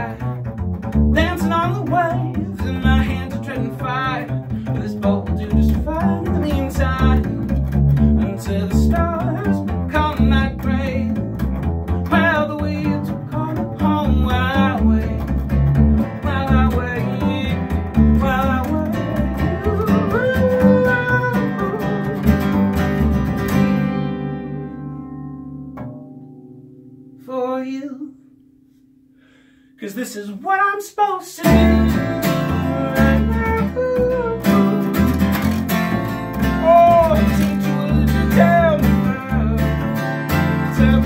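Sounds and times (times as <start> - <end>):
man singing: 0.0 - 22.6, 27.2 - 28.2, 29.8 - 41.0
acoustic guitar strumming: 0.0 - 27.6, 31.4 - 41.0
double bass plucked: 0.0 - 29.4, 31.4 - 41.0.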